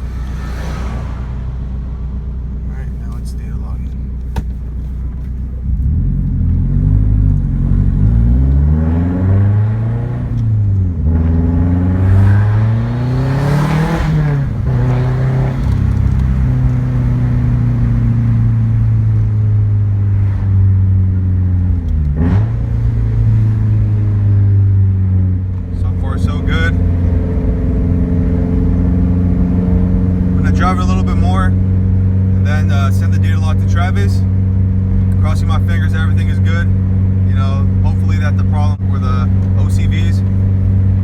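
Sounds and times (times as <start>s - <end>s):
car engine accelerating through gears: 0.0s - 41.0s.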